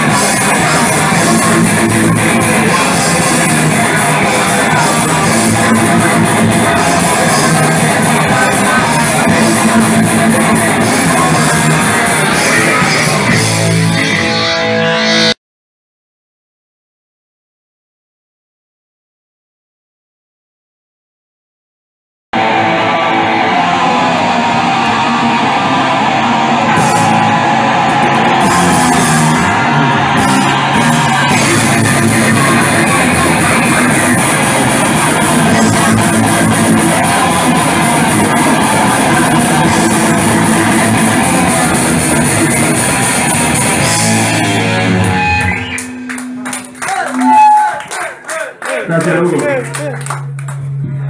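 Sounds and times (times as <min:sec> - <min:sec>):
drums: 0:00.0 - 0:15.4, 0:22.4 - 0:48.0
electric guitar: 0:00.0 - 0:15.4, 0:22.4 - 0:48.0, 0:48.9 - 0:51.0.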